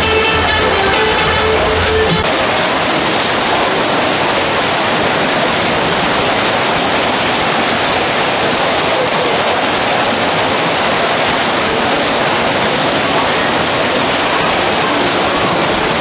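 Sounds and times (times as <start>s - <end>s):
heavy rain: 0.0s - 16.0s
water pouring over ledge: 2.2s - 16.0s.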